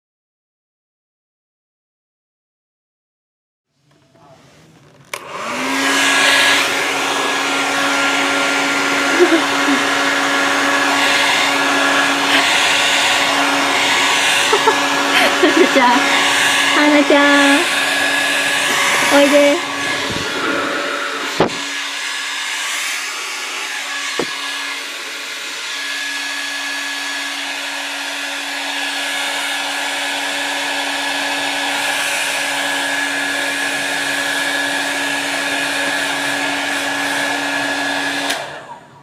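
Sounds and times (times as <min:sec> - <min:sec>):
hair dryer running: 0:05.1 - 0:39.0.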